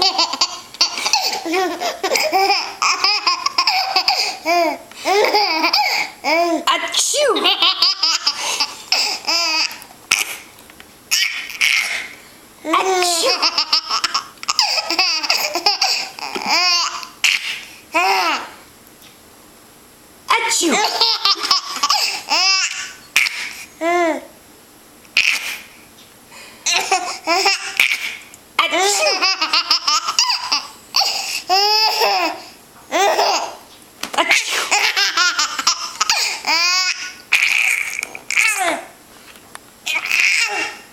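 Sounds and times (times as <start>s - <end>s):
baby laughing: 0.0s - 10.5s, 11.1s - 18.6s, 20.6s - 24.3s, 25.2s - 25.7s, 26.7s - 38.9s, 39.9s - 40.9s.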